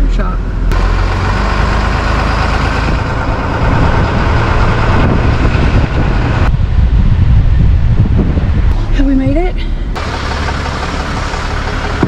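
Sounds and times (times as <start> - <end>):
truck engine rumble: 0.0 - 12.0
road noise hiss: 0.4 - 12.0.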